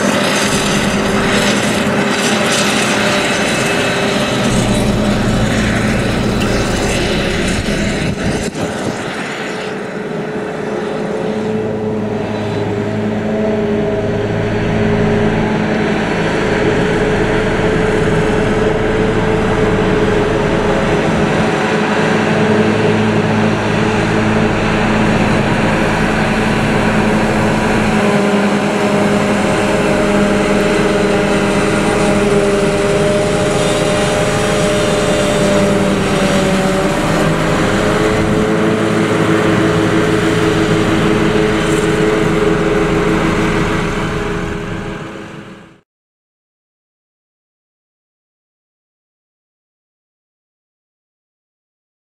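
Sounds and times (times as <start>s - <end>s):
forage harvester drone: 0.0s - 45.8s
tractor running: 0.0s - 45.8s.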